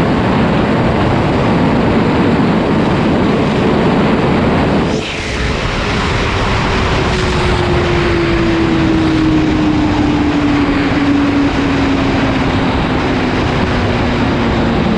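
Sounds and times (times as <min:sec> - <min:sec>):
loud rushing noise: 0:00.0 - 0:14.9.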